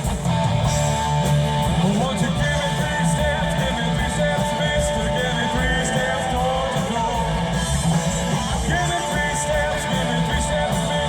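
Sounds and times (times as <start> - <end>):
drums with cymbal hits: 0.0 - 11.0
electric guitars: 0.0 - 11.0
person singing: 1.6 - 11.0.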